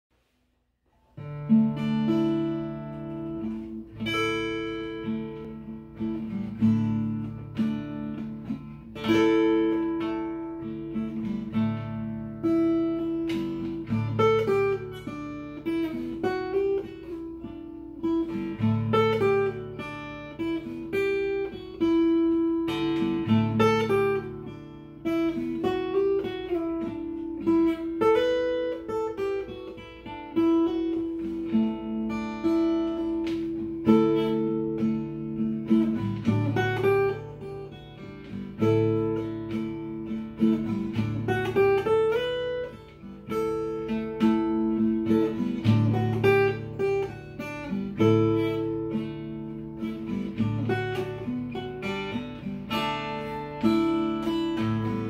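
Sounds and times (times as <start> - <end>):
fingerstyle acoustic guitar: 0.2 - 55.0.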